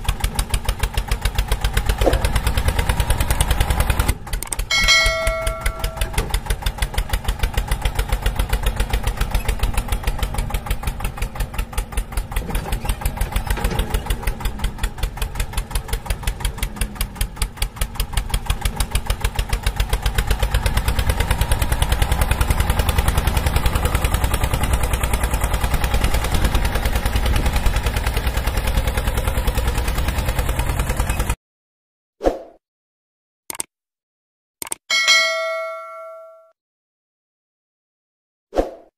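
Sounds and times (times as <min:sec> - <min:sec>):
small engine puttering: 0:00.0 - 0:31.4.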